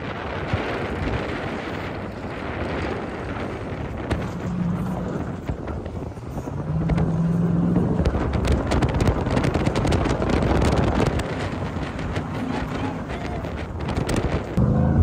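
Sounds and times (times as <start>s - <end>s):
engine crackling: 0.0s - 15.0s
vehicle engine running: 0.0s - 15.0s
wind on microphone: 0.0s - 15.0s.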